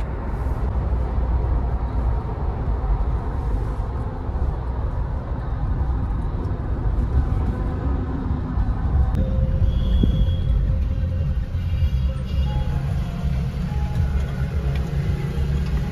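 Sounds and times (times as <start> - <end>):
moving vehicle rumble: 0.0 - 15.9.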